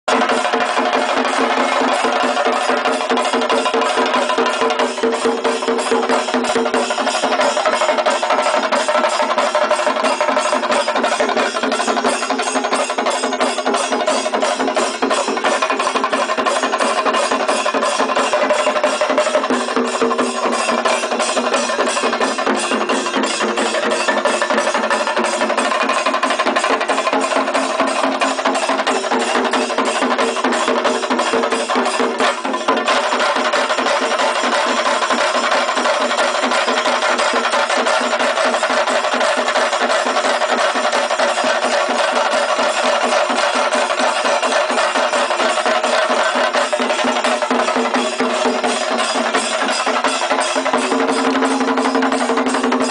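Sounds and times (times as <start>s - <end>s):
drums beaten with sticks: 0.1s - 52.9s.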